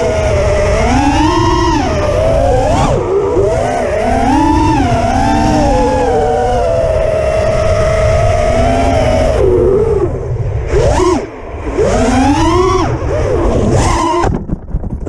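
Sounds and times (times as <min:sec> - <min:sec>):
quadcopter motors whining: 0:00.0 - 0:14.4
wind rumble on microphone: 0:00.0 - 0:15.0.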